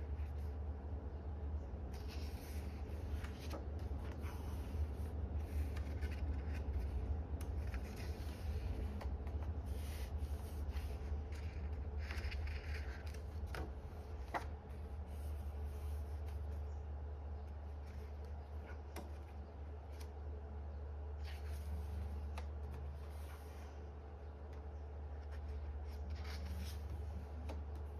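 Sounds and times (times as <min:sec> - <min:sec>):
steady low hum: 0:00.0 - 0:27.9
book pages turning: 0:01.8 - 0:20.3, 0:21.1 - 0:27.9.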